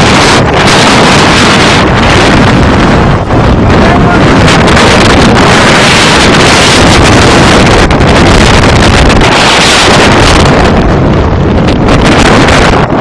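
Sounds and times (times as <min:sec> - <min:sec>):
wind blasting into microphone: 0:00.0 - 0:13.0.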